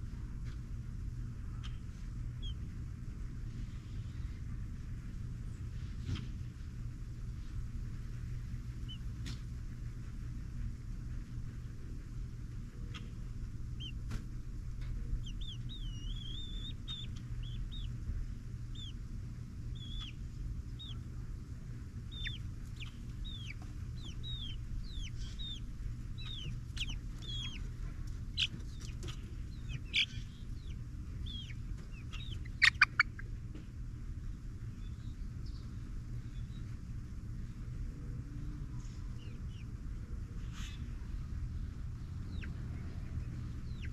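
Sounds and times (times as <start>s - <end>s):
low background rumble: 0.0s - 43.9s
chicks peeping: 1.5s - 2.8s, 8.1s - 37.6s, 38.5s - 43.9s.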